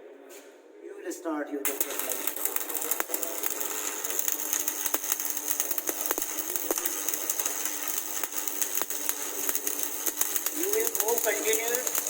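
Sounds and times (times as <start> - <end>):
welding arc crackling: 1.6 - 12.0
sharp welding pops: 1.7 - 12.0.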